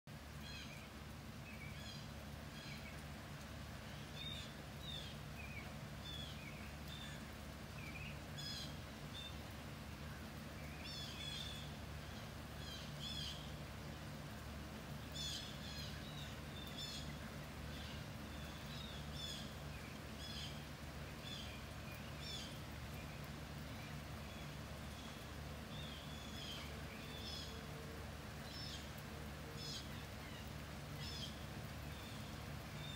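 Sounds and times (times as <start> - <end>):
constant low hum: 0.1 - 32.9
songbirds chirping: 0.1 - 32.9.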